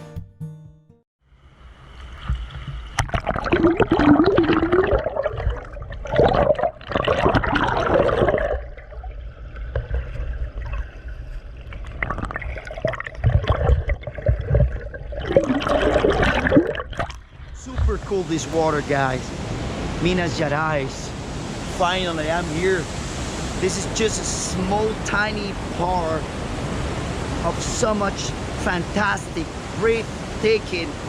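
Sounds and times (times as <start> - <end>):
river water splashing and gurgling: 1.5 - 31.0.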